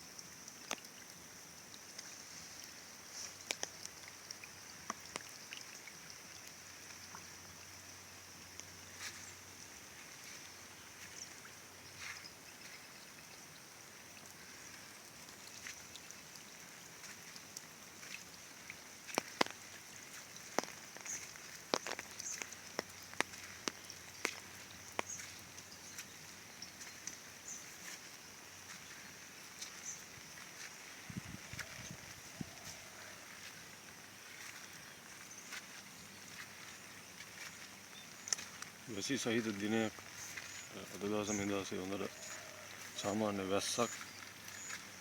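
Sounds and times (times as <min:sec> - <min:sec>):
raindrops ticking on surfaces: 0:00.0 - 0:45.0
steady high-pitched hiss: 0:00.0 - 0:45.0.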